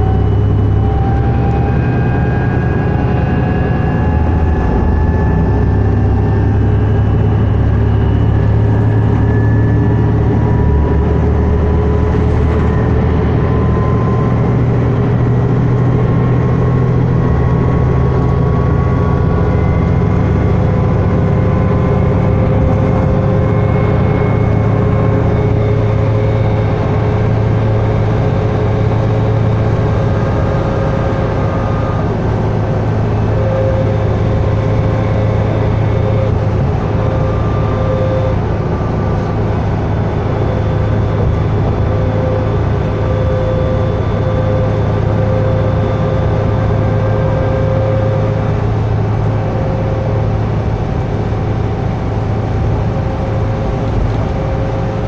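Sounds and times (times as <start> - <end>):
bus engine droning: 0.0 - 55.0
road and tyre noise: 0.0 - 55.0.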